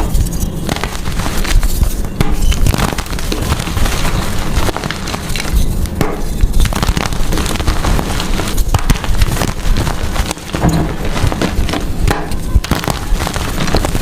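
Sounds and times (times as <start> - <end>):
chalk blocks being crushed: 0.0 - 14.0.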